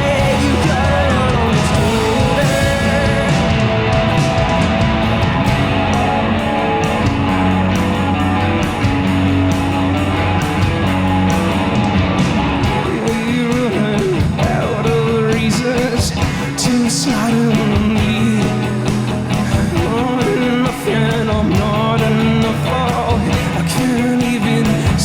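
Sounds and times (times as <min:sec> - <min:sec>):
rock band playing live: 0:00.0 - 0:25.0.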